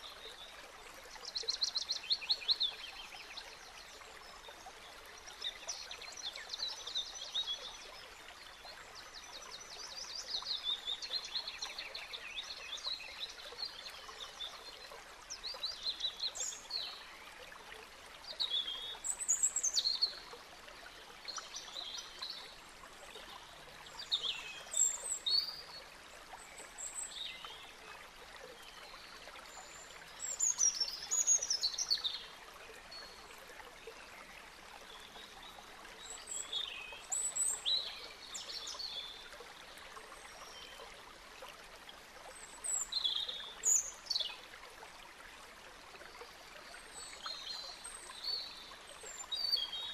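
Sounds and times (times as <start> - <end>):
faint background hiss: 0.0 - 49.9.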